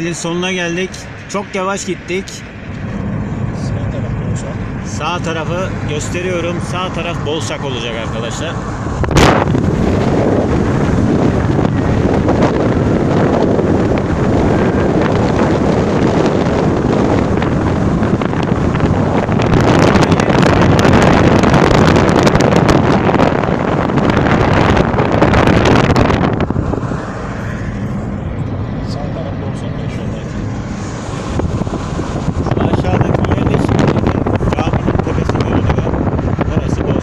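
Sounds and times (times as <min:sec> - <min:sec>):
car road noise: 0:00.0 - 0:37.0
wind buffeting microphone: 0:02.0 - 0:37.0.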